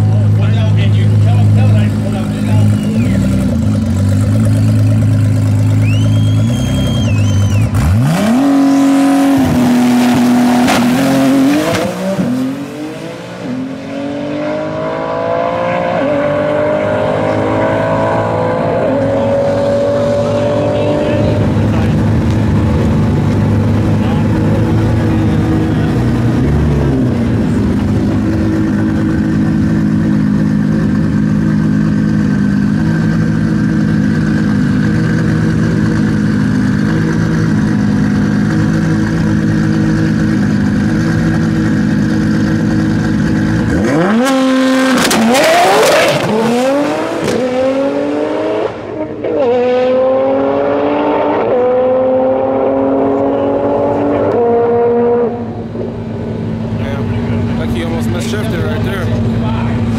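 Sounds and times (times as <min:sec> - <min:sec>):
drag car engine revving: 0:00.0 - 0:59.9.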